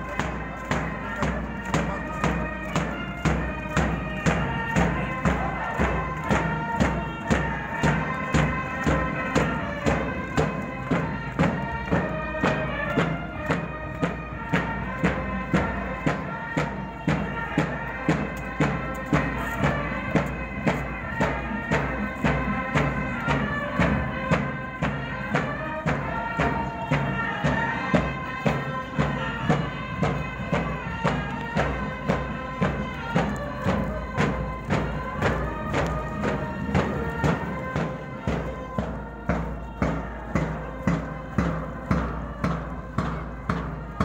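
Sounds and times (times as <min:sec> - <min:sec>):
bagpipes playing a tune: 0:00.0 - 0:44.0
regular drumbeat: 0:00.1 - 0:44.0.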